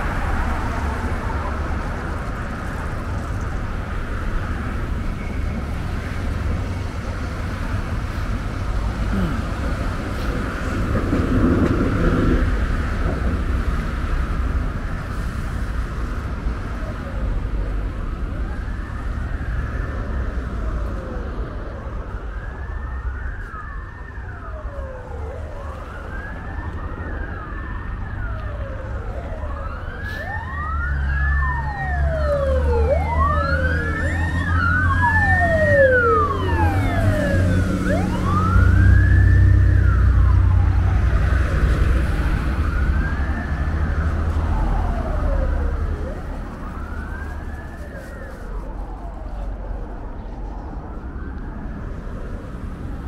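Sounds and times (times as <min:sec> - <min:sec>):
emergency siren wailing: 0:00.0 - 0:53.0
engine and traffic rumble: 0:00.0 - 0:53.0.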